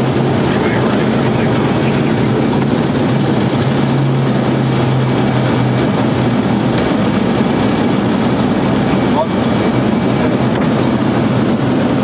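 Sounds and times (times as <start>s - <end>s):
jet engines at takeoff thrust: 0.0s - 12.0s
low hum: 0.0s - 12.0s.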